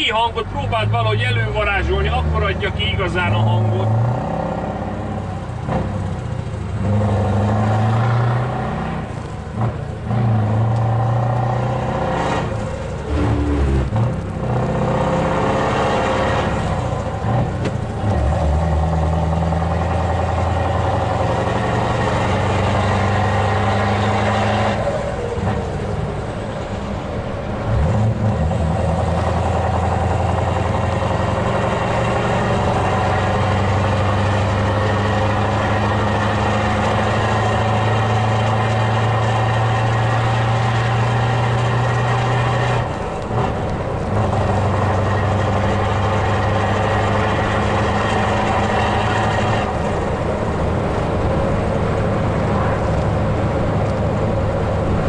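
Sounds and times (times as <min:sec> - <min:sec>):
truck engine accelerating: 0:00.0 - 0:55.0.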